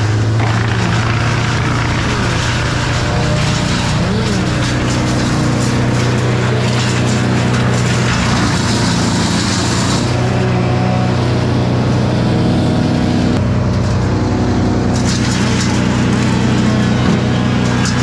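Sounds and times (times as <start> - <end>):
wood chipper engine drone: 0.0 - 18.0.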